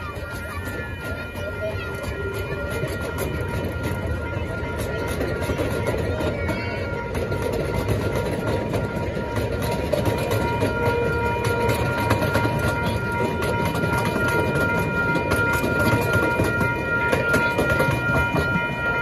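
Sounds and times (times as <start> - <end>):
crossing signal bell ringing: 0.0 - 19.0
train wheels rumbling on rails: 0.0 - 19.0.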